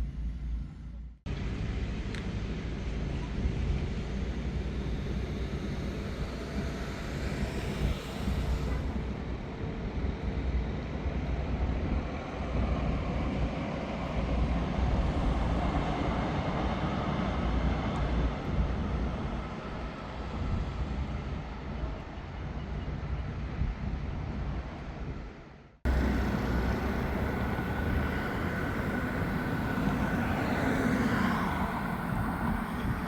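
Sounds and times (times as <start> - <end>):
light rail train rumbling: 0.0 - 25.0, 25.9 - 33.0.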